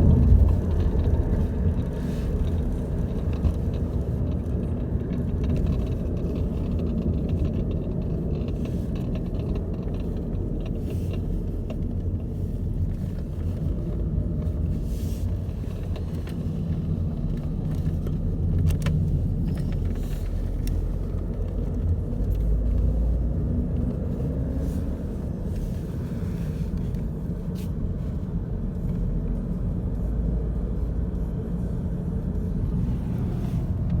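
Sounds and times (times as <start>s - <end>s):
diesel engine rumbling: 0.0s - 34.0s
faint dashboard clicks: 0.1s - 34.0s.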